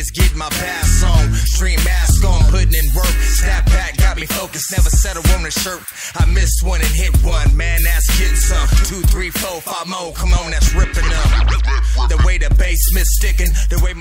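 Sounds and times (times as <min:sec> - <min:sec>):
rapping over a heavy bass beat: 0:00.0 - 0:14.0.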